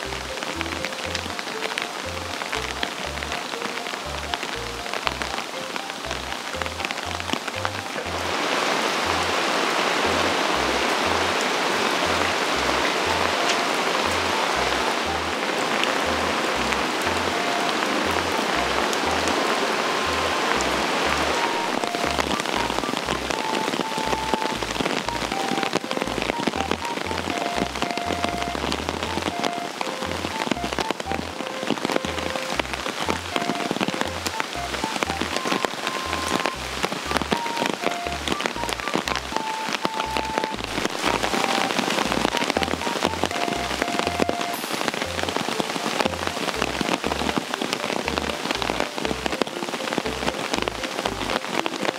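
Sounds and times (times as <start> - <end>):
background music with bass line: 0.0 - 8.4, 9.0 - 9.4, 10.0 - 51.8
rain falling: 0.0 - 51.9.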